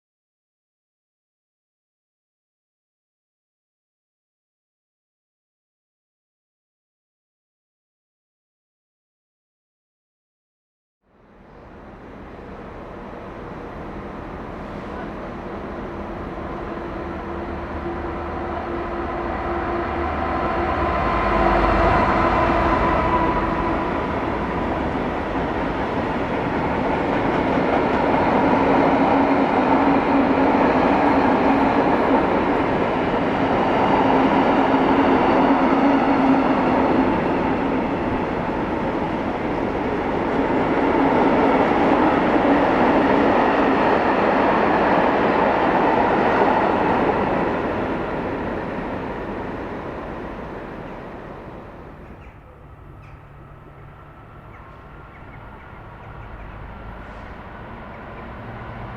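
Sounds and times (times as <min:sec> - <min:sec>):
freight train rumbling past: 0:11.1 - 0:58.9.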